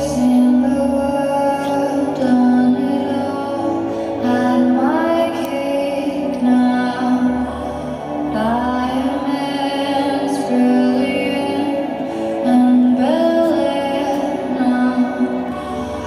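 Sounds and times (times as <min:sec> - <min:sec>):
dance music: 0:00.0 - 0:16.0
person singing: 0:00.0 - 0:16.0.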